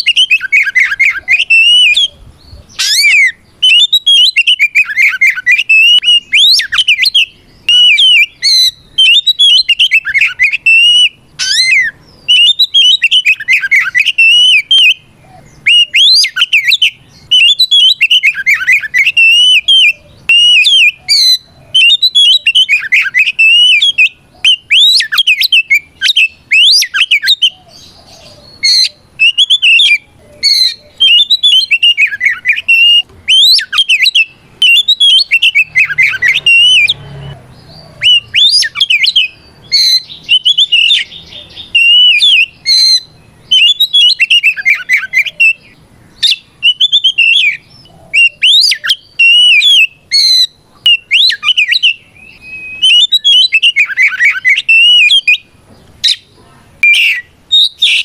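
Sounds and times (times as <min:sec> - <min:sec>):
songbird singing whistles: 0:00.0 - 0:58.0.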